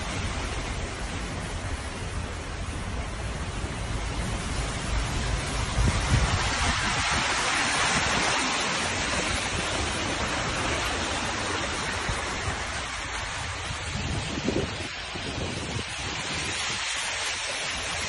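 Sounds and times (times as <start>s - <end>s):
rain: 0.0s - 18.0s
wind: 0.0s - 18.0s.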